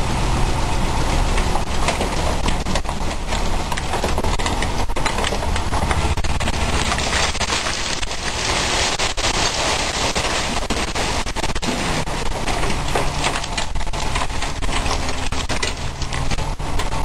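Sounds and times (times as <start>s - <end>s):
diesel engine running: 0.0s - 17.0s
gravel pouring from truck body: 0.0s - 17.0s.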